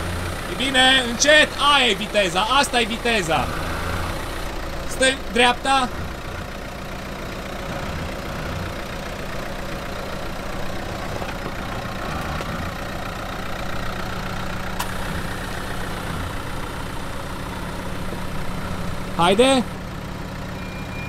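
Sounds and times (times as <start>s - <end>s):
car engine running low hum: 0.0s - 21.0s.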